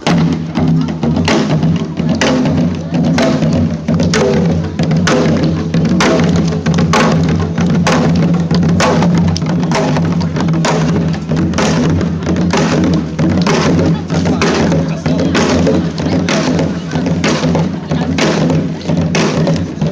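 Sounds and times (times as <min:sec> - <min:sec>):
percussion ensemble drumming: 0:00.0 - 0:19.9.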